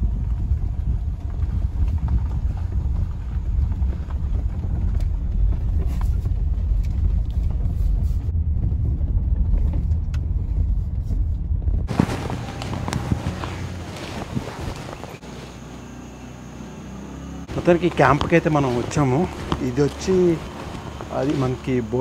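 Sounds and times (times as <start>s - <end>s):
car rumble on gravel road: 0.0s - 22.0s.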